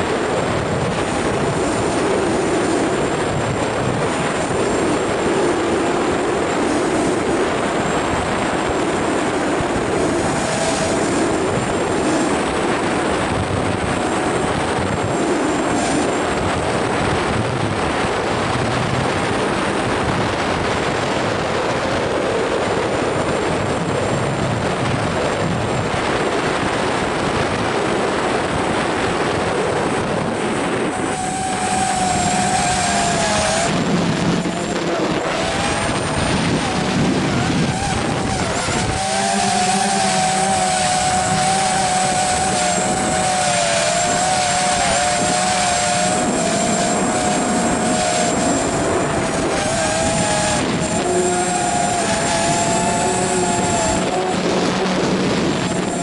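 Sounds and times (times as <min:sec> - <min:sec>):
model aircraft motor whine: 0:00.0 - 0:56.0
wind noise on microphone: 0:00.0 - 0:56.0.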